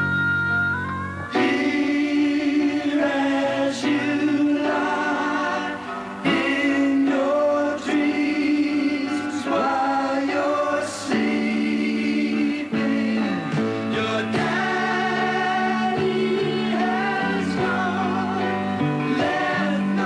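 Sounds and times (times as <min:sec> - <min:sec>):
electric guitar and band: 0:00.0 - 0:20.0
singing with group harmonies: 0:01.3 - 0:20.0.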